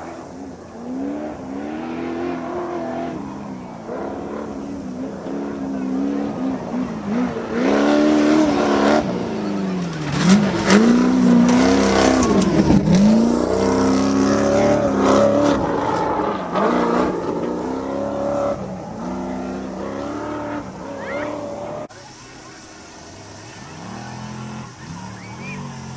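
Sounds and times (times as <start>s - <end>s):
race truck engines revving: 0.0s - 25.9s.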